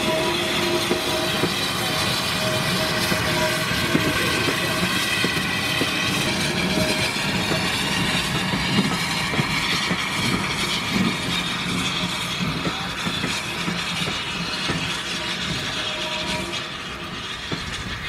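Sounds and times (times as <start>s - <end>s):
steam locomotive rumble: 0.0s - 18.0s.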